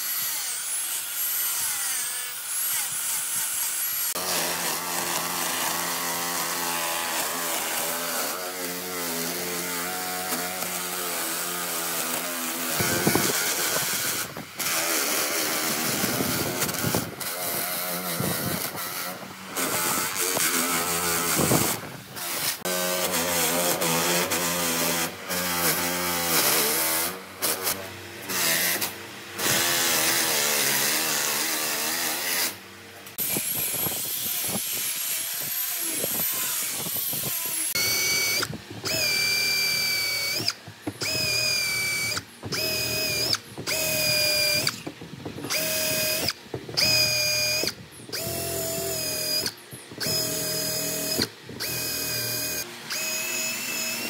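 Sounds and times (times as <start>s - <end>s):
angle grinder sanding wood: 0.0s - 54.0s
cordless drill whining: 0.0s - 54.0s.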